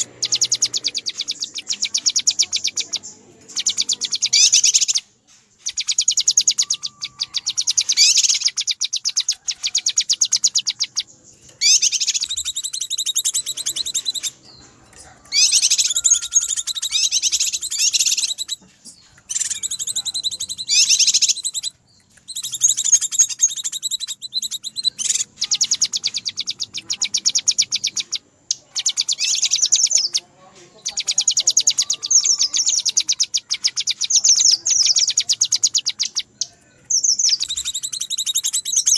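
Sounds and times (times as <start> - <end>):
bird rapid high chirps: 0.0 - 38.9.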